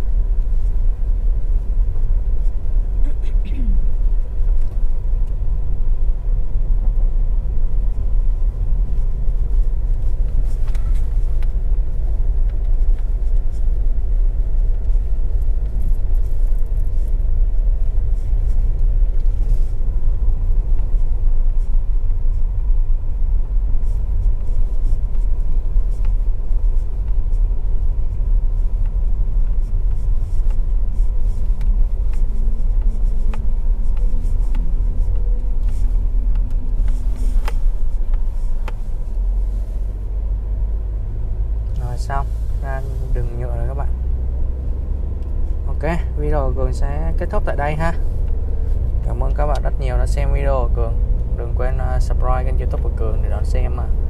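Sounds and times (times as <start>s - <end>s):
car tyres rumbling on rough track: 0.0s - 54.0s.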